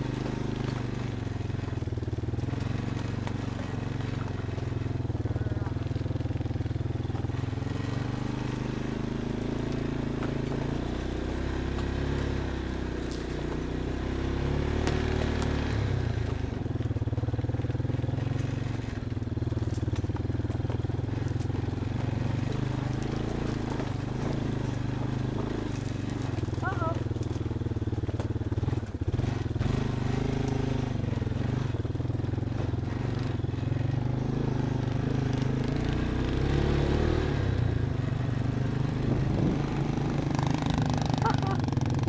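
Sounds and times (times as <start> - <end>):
off-road vehicle engine running: 0.0 - 42.0.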